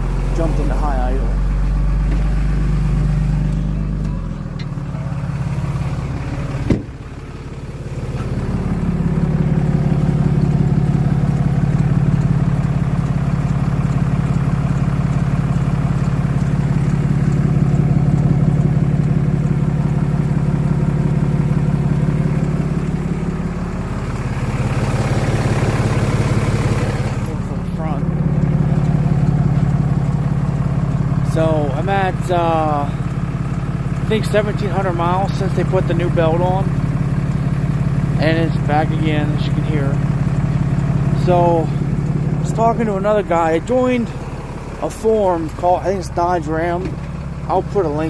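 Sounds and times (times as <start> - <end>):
diesel engine idling: 0.0 - 48.0
squealing engine belt: 0.0 - 48.0.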